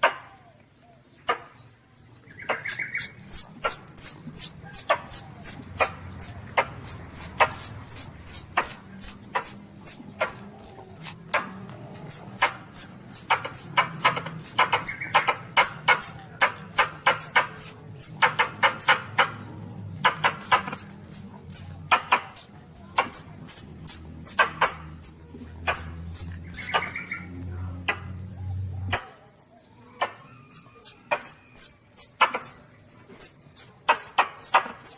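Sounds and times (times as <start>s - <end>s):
civet squeaking: 2.5s - 27.2s, 30.3s - 34.9s.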